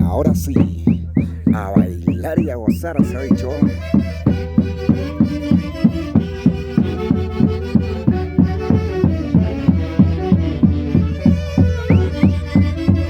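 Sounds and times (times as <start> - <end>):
fast even drumbeat: 0.0 - 13.0
folk orchestra dance tune: 0.0 - 13.0.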